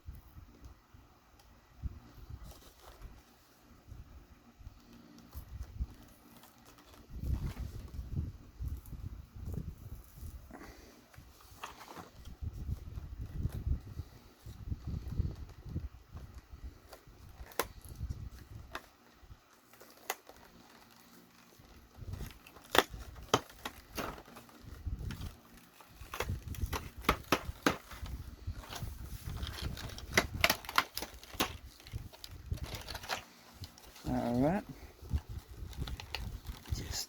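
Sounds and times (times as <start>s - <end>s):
plastic packaging crackling: 4.7s - 37.0s.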